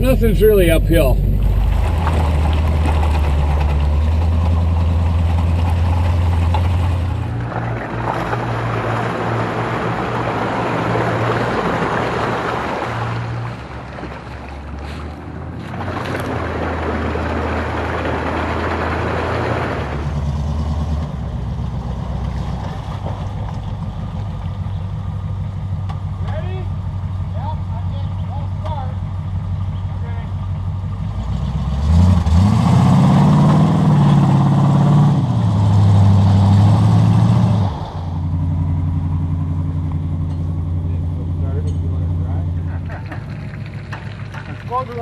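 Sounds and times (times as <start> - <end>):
off-road vehicle engine running: 0.0 - 45.0
tyres splashing through mud: 0.0 - 45.0.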